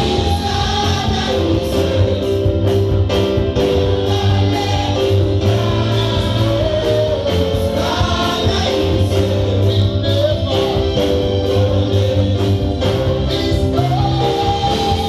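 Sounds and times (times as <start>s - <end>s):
choir singing gospel: 0.0s - 15.0s
instrumental accompaniment with beat: 0.0s - 15.0s.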